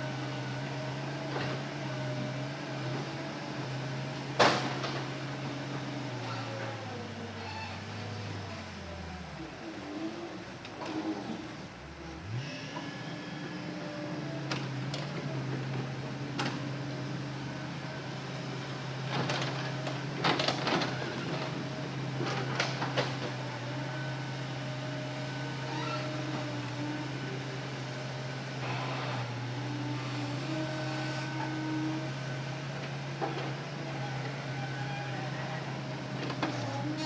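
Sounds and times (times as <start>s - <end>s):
excavator engine and hydraulic drone: 0.0s - 37.0s.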